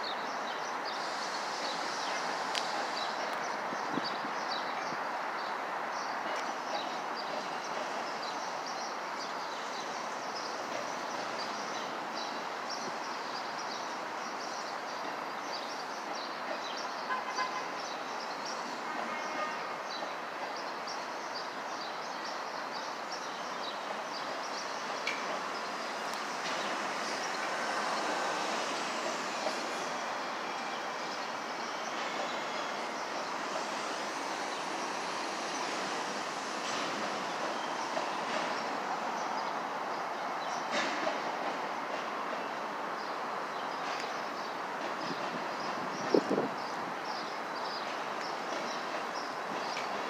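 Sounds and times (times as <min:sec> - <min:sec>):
freight train rolling: 0:00.0 - 0:50.0.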